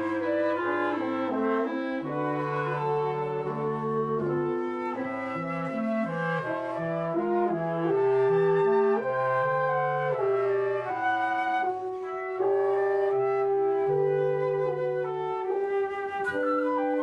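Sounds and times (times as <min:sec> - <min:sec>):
military wind band playing: 0:00.0 - 0:17.0.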